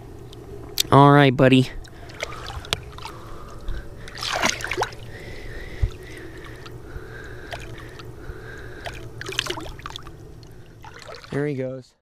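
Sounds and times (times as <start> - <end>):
water sloshing and splashing: 1.8 - 11.7.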